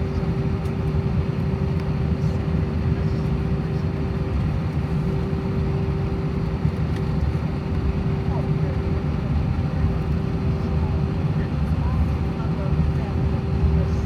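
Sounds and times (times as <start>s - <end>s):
jet engines heard inside cabin: 0.0s - 14.0s.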